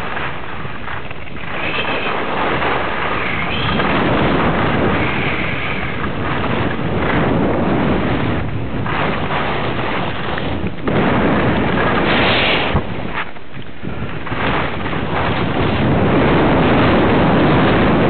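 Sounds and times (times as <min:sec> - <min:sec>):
skis hissing and scraping on snow: 0:00.0 - 0:18.0
wind buffeting microphone: 0:00.0 - 0:18.0.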